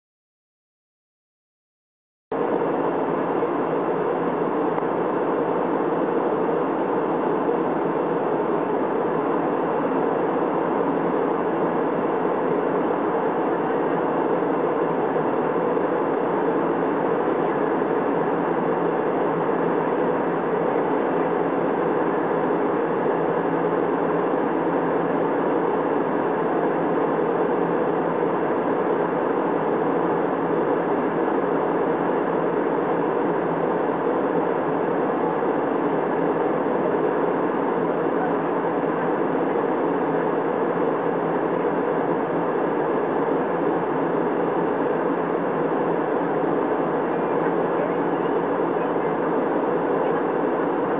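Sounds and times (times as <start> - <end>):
jet engines and rushing air: 2.3 - 50.9.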